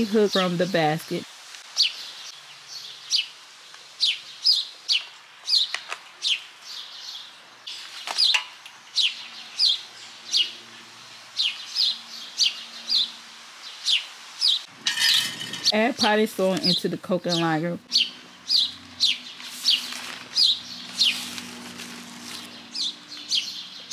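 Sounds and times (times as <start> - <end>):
songbird calling: 1.8 - 3.4, 4.0 - 10.7, 11.3 - 23.9.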